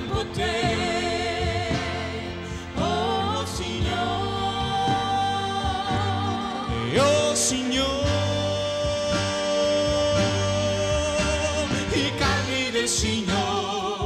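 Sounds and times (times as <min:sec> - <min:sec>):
keyboard and band accompaniment: 0:00.0 - 0:14.0
person singing with vibrato: 0:00.0 - 0:14.0.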